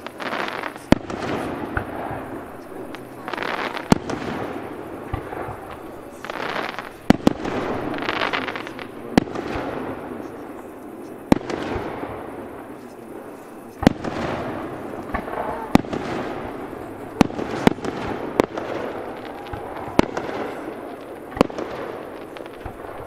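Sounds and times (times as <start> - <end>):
fireworks bursting with bangs: 0.0 - 23.0
fireworks crackle: 0.0 - 23.0.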